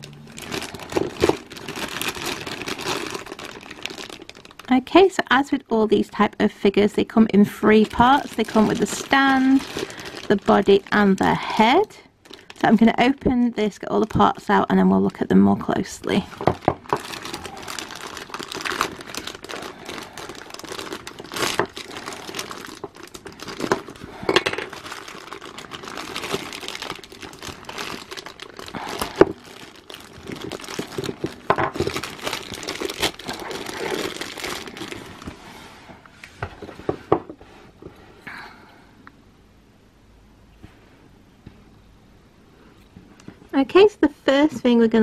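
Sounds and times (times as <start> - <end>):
plastic bags crinkling: 0.0 - 6.3, 6.9 - 15.1, 15.7 - 37.3.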